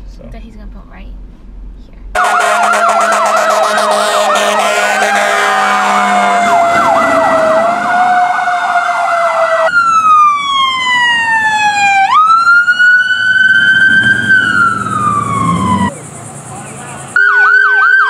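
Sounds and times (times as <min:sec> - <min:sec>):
siren fast electronic yelp: 0:02.2 - 0:15.9, 0:17.2 - 0:18.0
electronic siren wailing: 0:02.2 - 0:16.0, 0:17.2 - 0:18.0
steady siren tone: 0:02.2 - 0:18.0.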